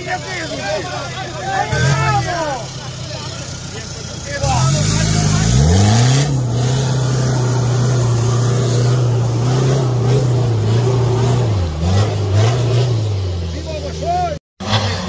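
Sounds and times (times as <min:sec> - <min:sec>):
off-road engine revving hard: 0:00.0 - 0:15.0.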